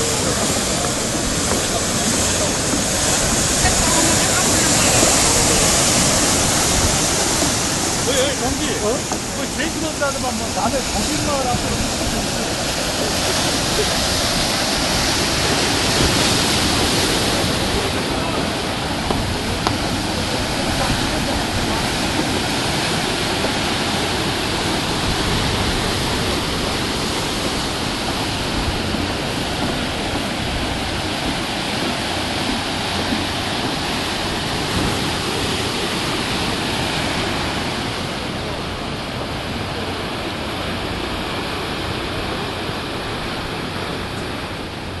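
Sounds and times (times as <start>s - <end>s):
sea waves breaking on shore: 0.0s - 45.0s.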